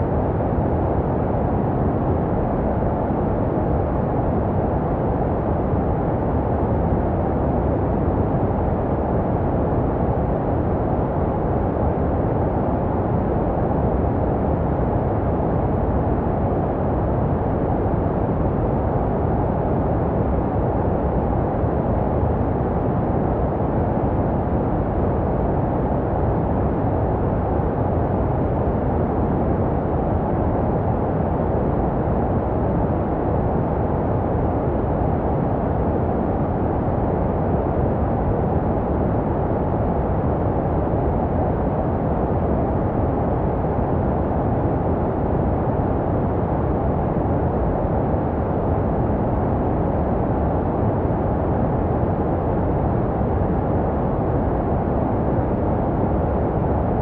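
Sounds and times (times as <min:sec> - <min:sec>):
muffled low white noise hiss: 0:00.0 - 0:57.0.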